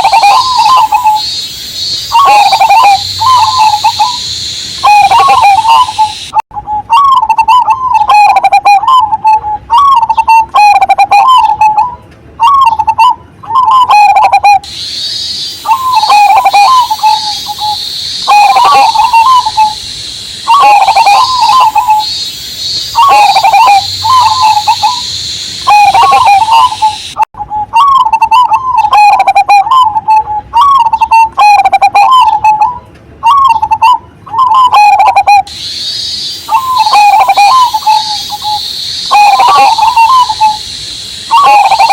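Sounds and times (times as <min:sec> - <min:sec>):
high cicada drone: 0:00.0 - 0:11.8, 0:12.4 - 0:41.9
dove cooing: 0:00.0 - 0:41.9
high chirping notes: 0:00.0 - 0:41.9.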